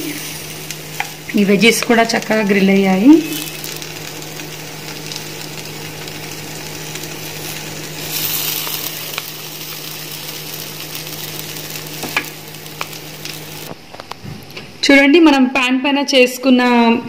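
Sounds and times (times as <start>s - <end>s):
food sizzling on grill pan: 0.0s - 13.7s.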